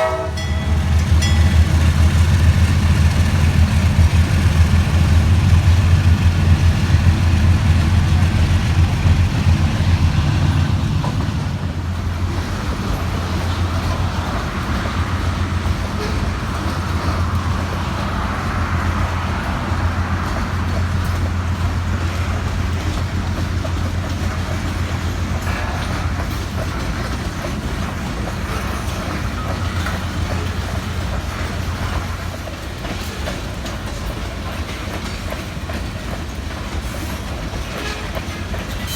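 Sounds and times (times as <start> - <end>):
diesel locomotive engine drone: 0.0 - 38.9
freight cars rumbling on rails: 0.0 - 38.9.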